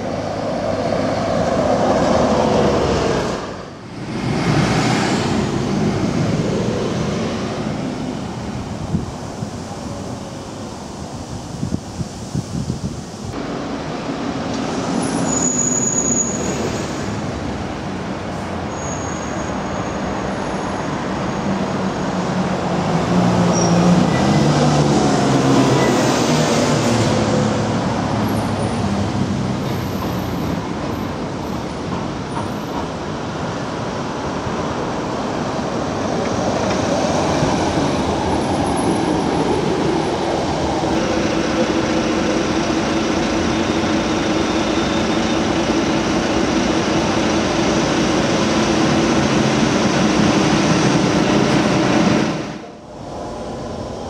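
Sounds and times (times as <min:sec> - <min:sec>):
road traffic passing: 0:00.0 - 0:54.0
tram humming: 0:00.0 - 0:54.0.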